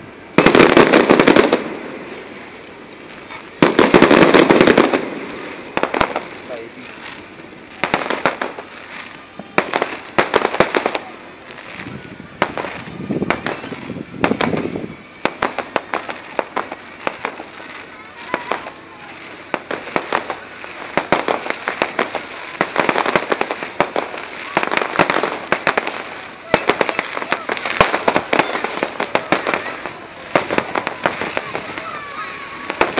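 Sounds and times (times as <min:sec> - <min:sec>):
firework bangs: 0:00.0 - 0:32.9
firework crackling: 0:00.0 - 0:32.9.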